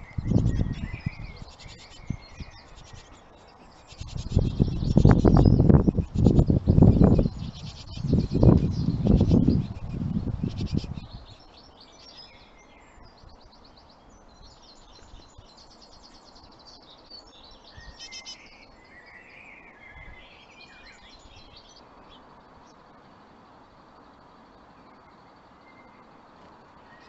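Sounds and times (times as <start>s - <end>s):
small birds twittering: 0.0s - 27.0s.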